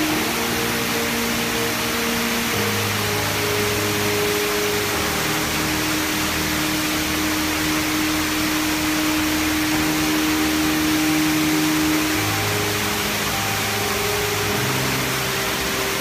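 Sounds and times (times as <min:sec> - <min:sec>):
slow background music: 0:00.0 - 0:16.0
waterfall roaring: 0:00.0 - 0:16.0.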